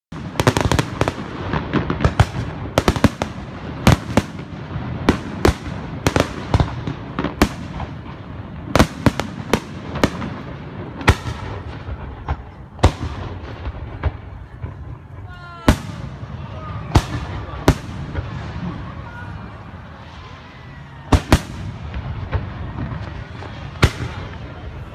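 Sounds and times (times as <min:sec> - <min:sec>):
fireworks bursting: 0:00.1 - 0:24.9.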